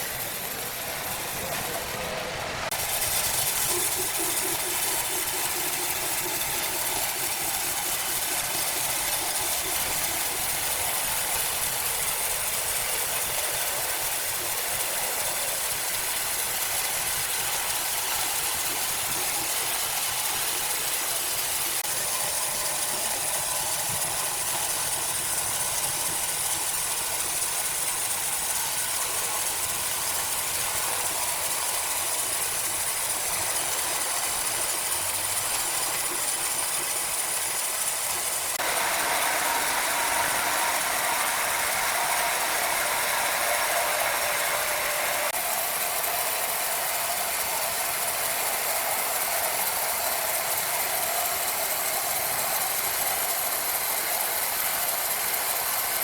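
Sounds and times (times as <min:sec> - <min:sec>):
machinery hissing: 0:00.0 - 0:56.0.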